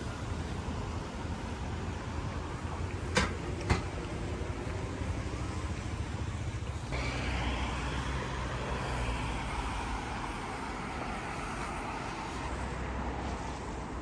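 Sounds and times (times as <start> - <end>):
passing cars rumble: 0.0 - 14.0
vehicle approaching: 0.0 - 14.0.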